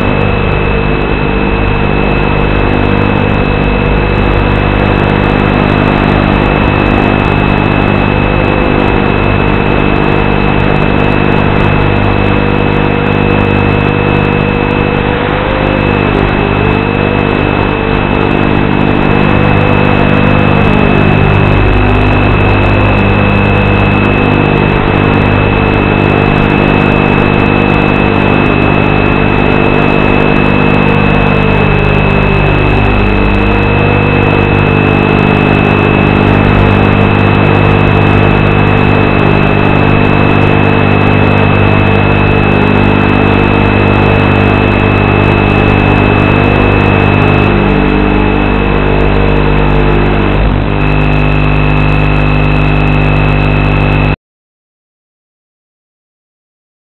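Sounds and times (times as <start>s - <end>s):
faint wobbling tone: 0.0s - 54.0s
electronic buzz and hiss: 0.0s - 54.2s
high whine: 0.0s - 54.2s
low hum tones: 0.0s - 54.2s.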